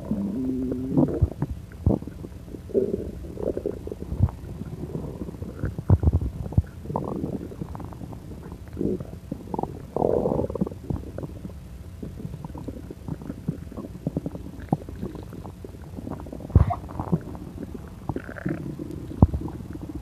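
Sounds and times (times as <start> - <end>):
stomach gurgling: 0.0 - 20.0.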